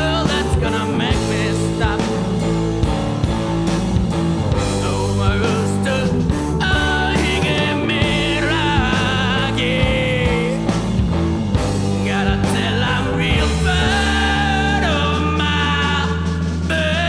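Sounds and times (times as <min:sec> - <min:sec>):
rock band playing: 0:00.0 - 0:17.0
wailing lead guitar: 0:00.0 - 0:17.0.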